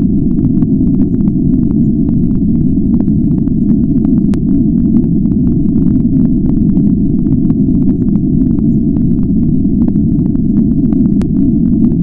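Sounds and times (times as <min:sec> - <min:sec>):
faint clicks and pops: 0:00.0 - 0:12.0.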